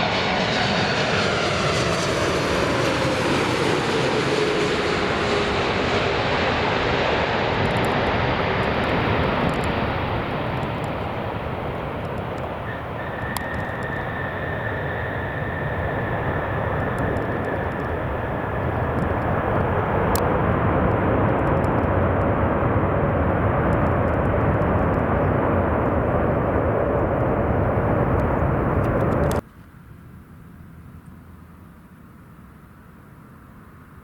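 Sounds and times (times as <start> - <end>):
jet engines rushing and whining: 0.0 - 29.4.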